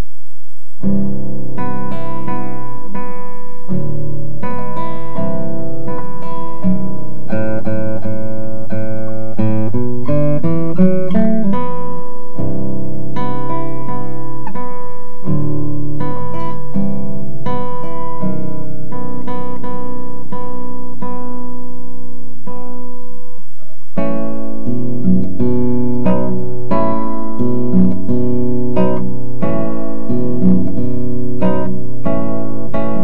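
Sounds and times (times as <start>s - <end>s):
classical guitar playing: 0.8s - 33.0s.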